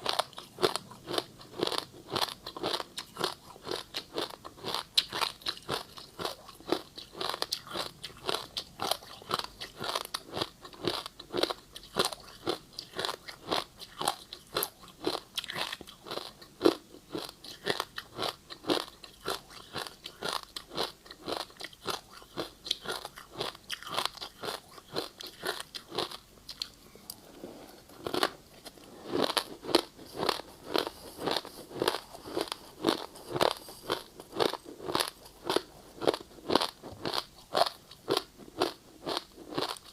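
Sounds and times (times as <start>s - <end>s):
ice being bitten and chewed: 0.0s - 26.8s, 28.0s - 39.9s.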